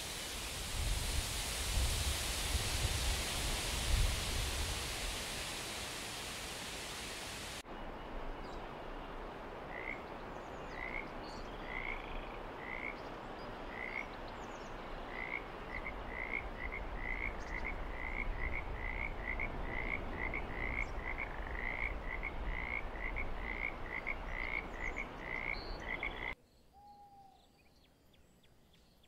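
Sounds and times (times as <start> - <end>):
steady rushing hiss: 0.0 - 8.4, 9.1 - 26.4.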